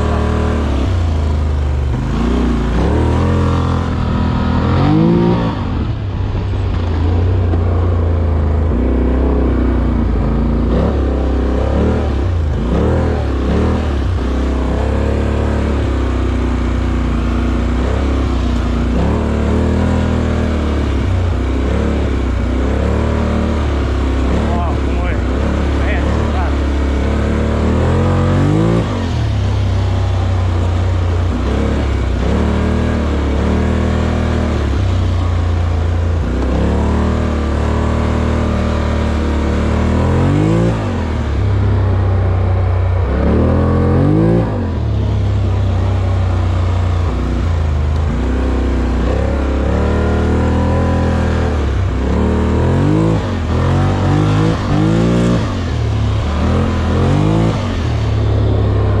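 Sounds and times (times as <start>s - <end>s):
steady low drone: 0.0s - 59.0s
vehicle engine revving: 0.0s - 59.0s.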